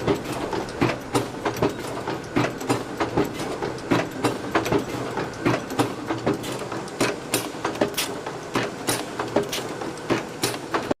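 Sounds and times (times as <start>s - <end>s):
machine mechanism clacking: 0.0s - 11.0s
steady machine hum: 0.0s - 11.0s.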